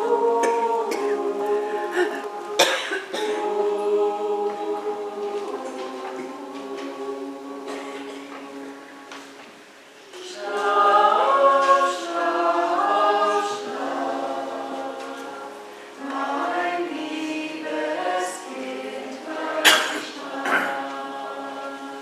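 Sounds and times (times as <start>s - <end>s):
church choir singing: 0.0s - 22.0s.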